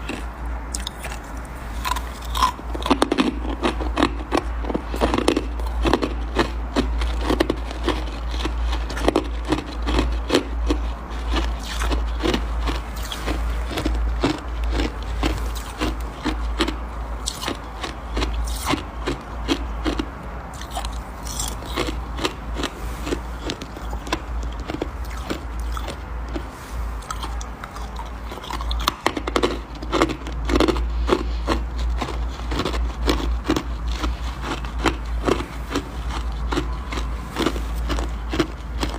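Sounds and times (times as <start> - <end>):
freezer frost crunching: 0.0 - 38.9.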